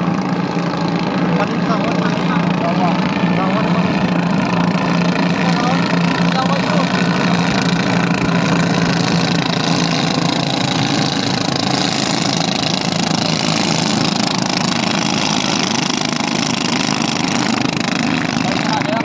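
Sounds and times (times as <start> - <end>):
boat engines droning: 0.0 - 19.0.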